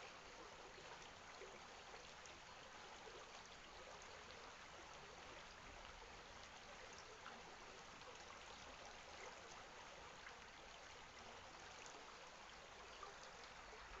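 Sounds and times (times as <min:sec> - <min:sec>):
stream running water: 0:00.0 - 0:14.0.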